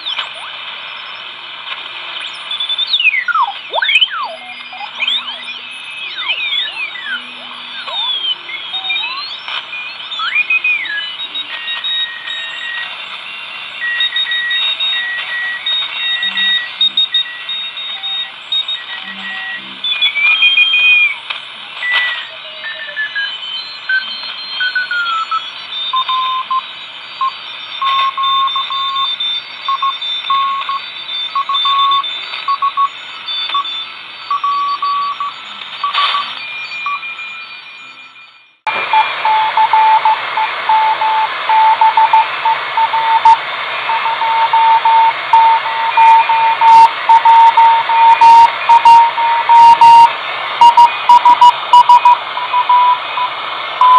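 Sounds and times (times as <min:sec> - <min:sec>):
radio hiss: 0:00.0 - 0:38.0, 0:38.7 - 0:53.9
morse code beeps: 0:02.2 - 0:21.2, 0:21.8 - 0:53.9
radio whistles sliding in pitch: 0:02.2 - 0:53.9.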